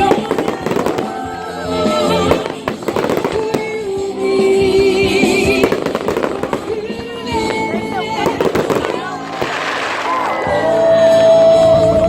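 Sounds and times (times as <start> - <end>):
fireworks crackling and banging: 0.0 - 11.3
music playing: 0.0 - 12.0.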